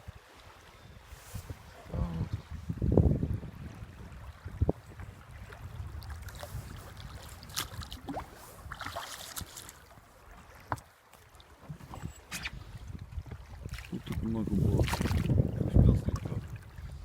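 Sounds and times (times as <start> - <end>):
wind rumble on microphone: 0.0 - 10.7, 11.6 - 17.0
water rushing and splashing: 0.0 - 17.0.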